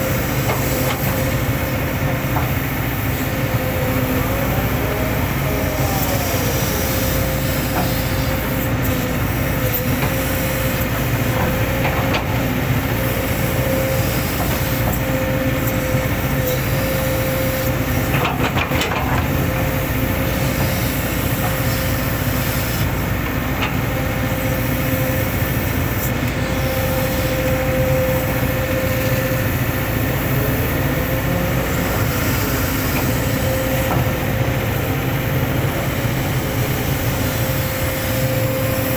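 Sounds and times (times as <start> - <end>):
excavator diesel engine running: 0.0 - 38.9
high hydraulic whine: 0.0 - 38.9.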